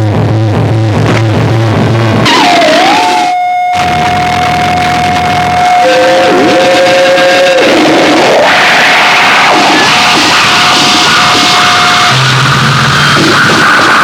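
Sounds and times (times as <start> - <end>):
harsh electronic noise music: 0.0 - 14.0
low droning tones: 0.0 - 14.0.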